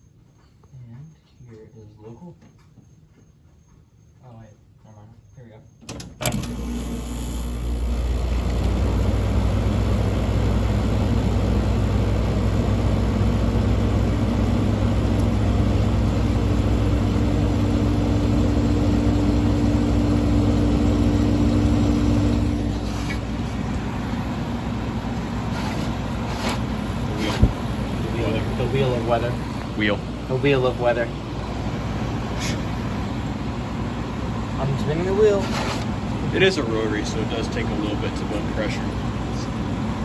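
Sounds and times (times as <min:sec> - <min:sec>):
air conditioner humming: 0:05.8 - 0:40.0.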